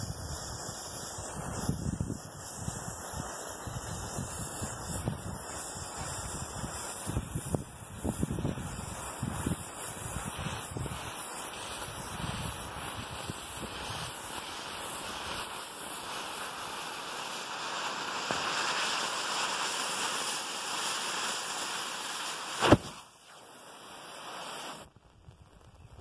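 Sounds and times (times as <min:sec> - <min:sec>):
balloon deflating hiss: 0:00.0 - 0:24.9
sharp poof of ignition: 0:00.0 - 0:26.0.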